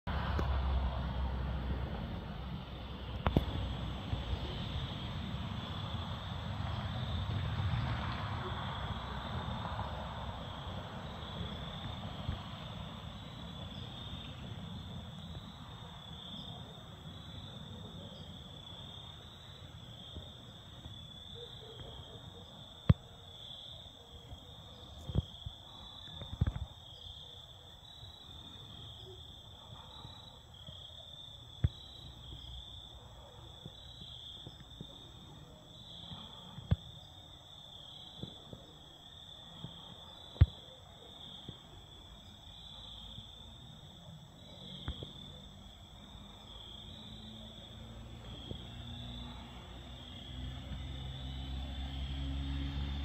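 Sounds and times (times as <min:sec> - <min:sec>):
insects chirping: 0:02.5 - 0:53.0.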